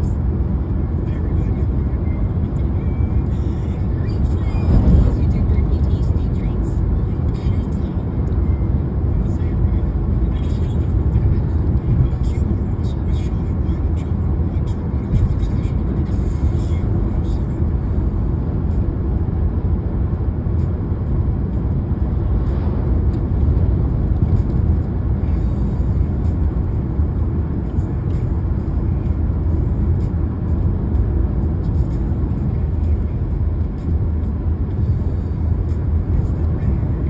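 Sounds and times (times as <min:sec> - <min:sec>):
car tyres and engine rumble: 0:00.0 - 0:37.0.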